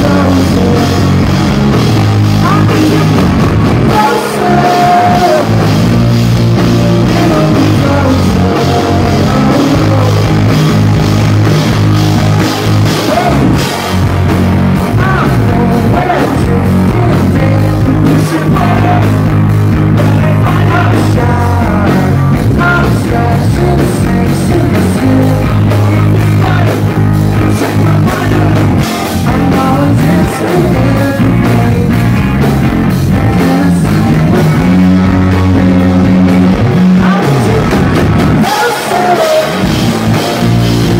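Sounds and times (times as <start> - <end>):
man singing lead vocal: 0.0 - 1.6, 2.2 - 10.8, 13.0 - 13.7, 14.8 - 32.2, 32.9 - 40.0
bass guitar: 0.0 - 40.9
drums: 0.0 - 40.9
electric guitars: 0.0 - 40.9.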